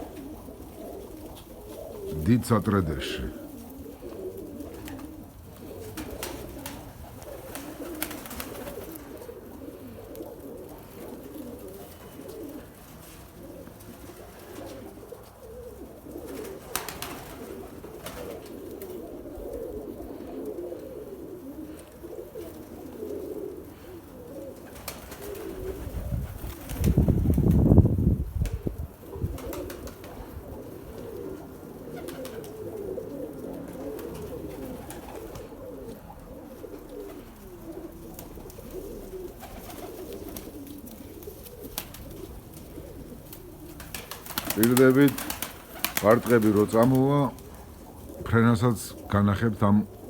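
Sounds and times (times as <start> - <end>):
pigeons cooing: 0.0 - 50.0.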